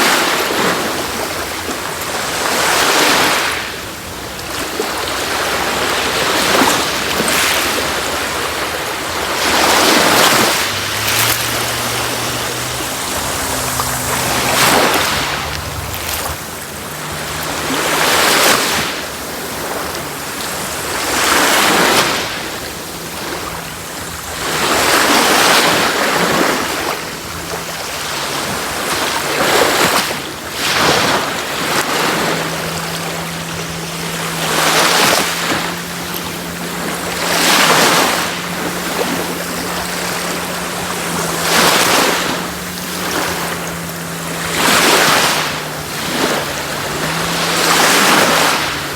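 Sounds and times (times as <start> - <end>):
sea waves breaking on beach: 0.0 - 48.9.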